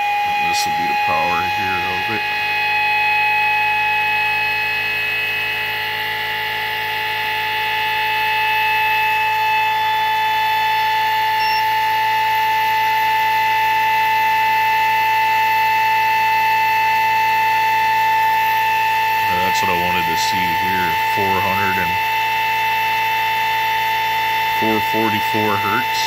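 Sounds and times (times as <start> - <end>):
motor high-pitched whine: 0.0 - 26.0.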